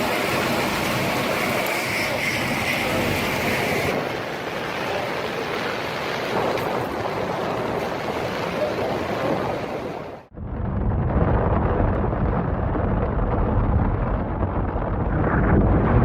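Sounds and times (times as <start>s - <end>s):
tornado wind roaring: 0.0s - 16.0s
wind blasting microphone: 0.0s - 16.0s.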